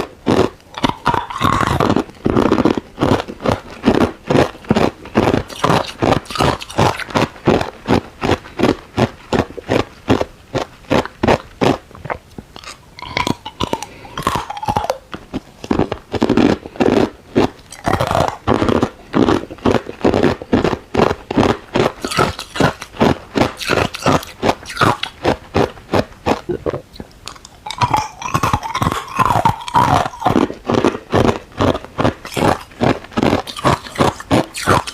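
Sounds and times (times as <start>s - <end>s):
ice cubes crunching when chewed: 0.0s - 34.9s.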